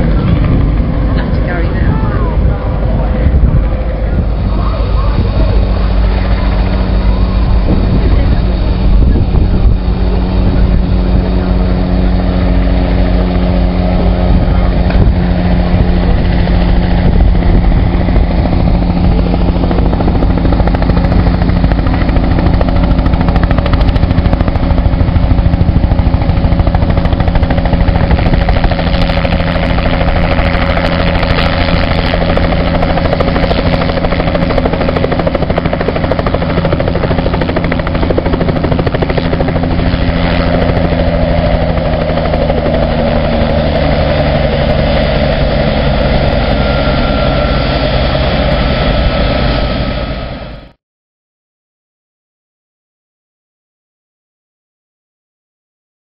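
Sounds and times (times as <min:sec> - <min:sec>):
helicopter rotor chop: 0:00.0 - 0:50.8.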